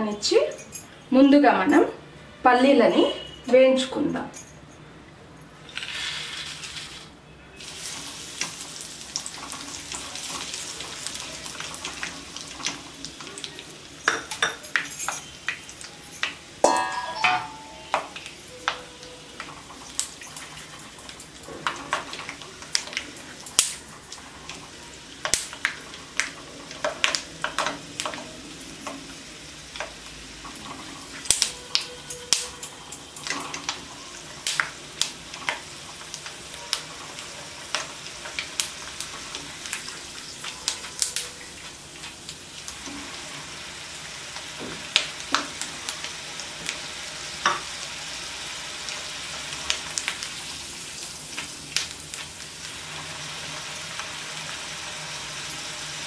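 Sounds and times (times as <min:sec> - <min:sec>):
peanuts sizzling in hot oil: 0:05.6 - 0:16.9, 0:17.5 - 0:56.0.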